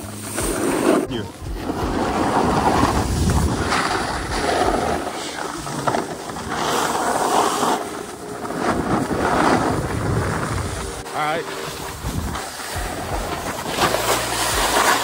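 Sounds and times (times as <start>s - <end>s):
snowboard edges scraping snow: 0.0s - 15.0s.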